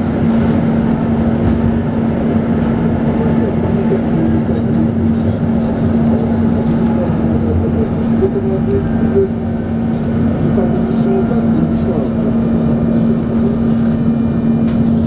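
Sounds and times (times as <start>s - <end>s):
low hum: 0.0s - 15.0s
tram wheels rumbling on rails: 0.0s - 15.0s.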